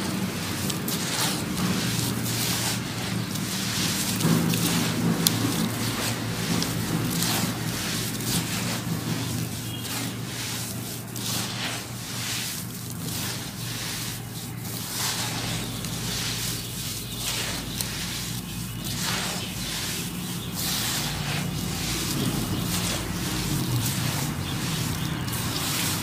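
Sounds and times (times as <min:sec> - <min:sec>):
dry sand crunching in hands: 0:00.0 - 0:26.0.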